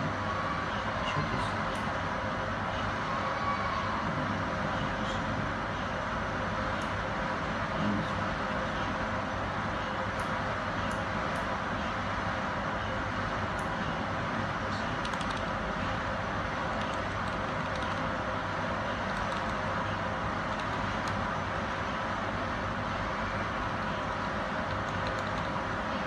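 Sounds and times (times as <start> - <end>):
machine hum and hiss: 0.0 - 26.0.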